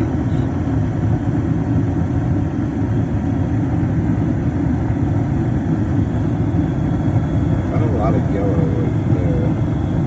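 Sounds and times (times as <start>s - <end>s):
gas furnace motor rumble: 0.0s - 10.0s.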